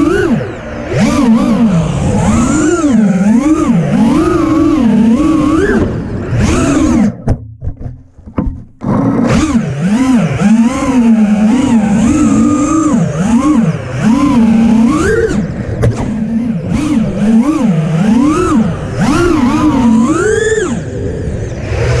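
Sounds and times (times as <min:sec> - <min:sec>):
drone motors whining: 0:00.0 - 0:07.4, 0:08.3 - 0:22.0.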